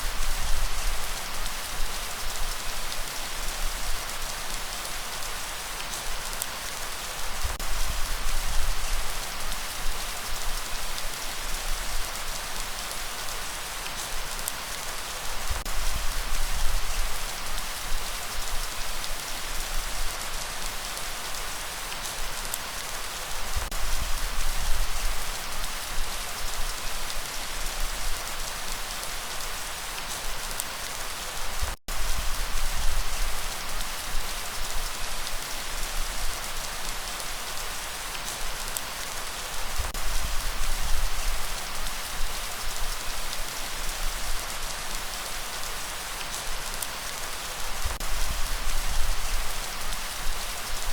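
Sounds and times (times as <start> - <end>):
heavy rain hissing: 0.0 - 50.9.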